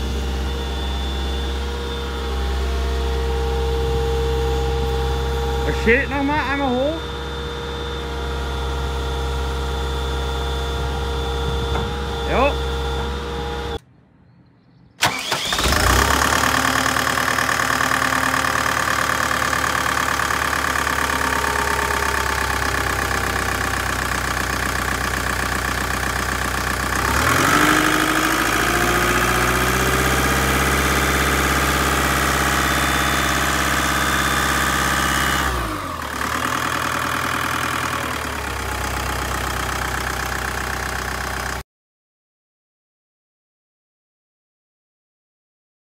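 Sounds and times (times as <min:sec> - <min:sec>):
excavator diesel engine running: 0:00.0 - 0:13.8, 0:15.0 - 0:41.6.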